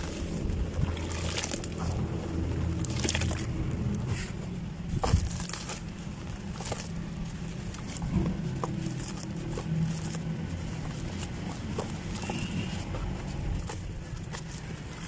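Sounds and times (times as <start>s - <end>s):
low rumble: 0.0s - 14.2s
dry cement lumps crumbling: 0.0s - 15.0s.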